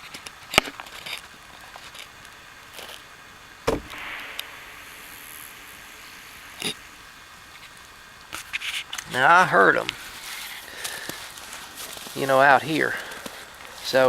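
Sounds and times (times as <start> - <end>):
bees buzzing hiss: 2.7 - 14.0.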